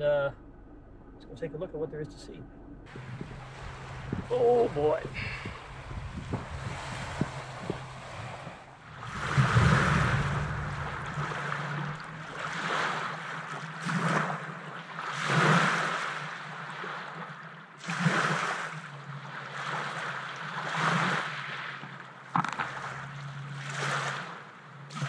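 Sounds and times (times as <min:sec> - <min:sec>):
waves lapping on pebble beach: 0:02.9 - 0:25.0.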